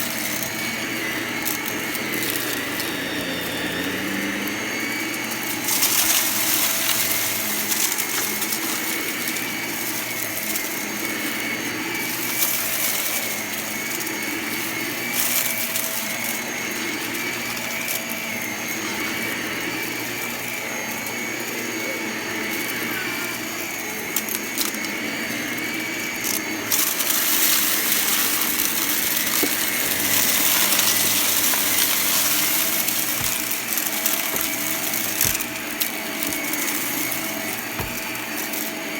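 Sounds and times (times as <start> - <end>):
debris rattling through vacuum: 0.0 - 19.4, 26.2 - 38.9
vacuum cleaner whine: 0.0 - 38.9.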